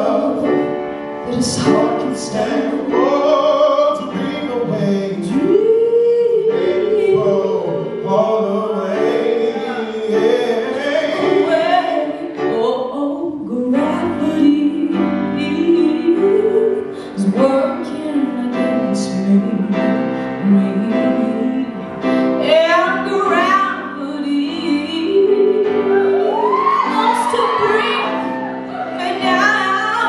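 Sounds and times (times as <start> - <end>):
grand piano: 0.0 - 30.0.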